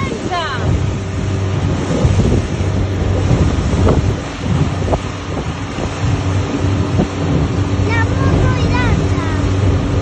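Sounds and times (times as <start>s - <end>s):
motorboat engine running: 0.0s - 10.0s
water rushing past: 0.0s - 10.0s
wind buffeting microphone: 0.0s - 10.0s.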